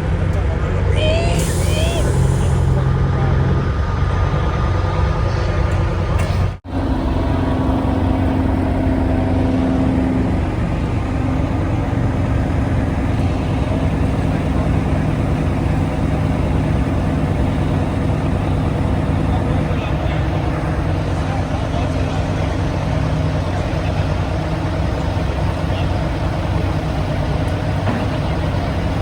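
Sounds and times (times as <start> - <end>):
road noise: 0.0 - 29.0
truck diesel engine drone: 0.0 - 29.0.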